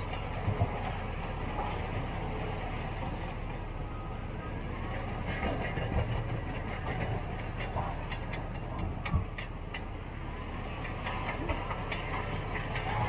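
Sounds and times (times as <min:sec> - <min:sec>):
bulldozer diesel rumble: 0:00.0 - 0:13.0
steel tracks clanking: 0:00.0 - 0:13.0.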